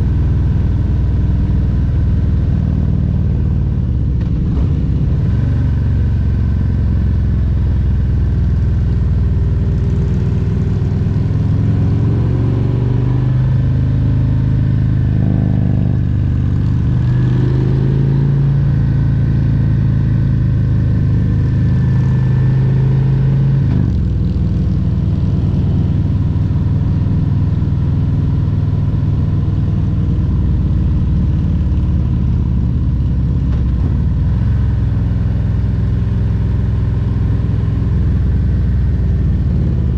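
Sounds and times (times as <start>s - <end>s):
motorcycle engine revving: 0.6s - 7.5s, 8.4s - 39.9s.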